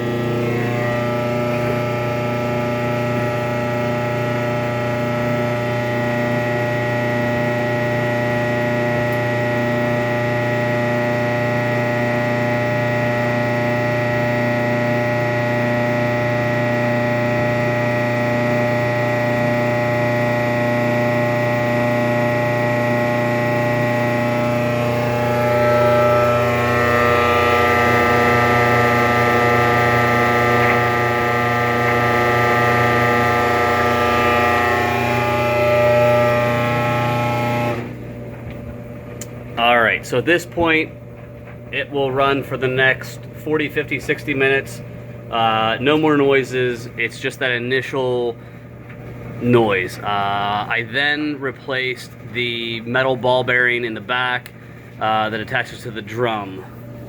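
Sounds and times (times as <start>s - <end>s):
electric dryer droning: 0.0s - 57.0s.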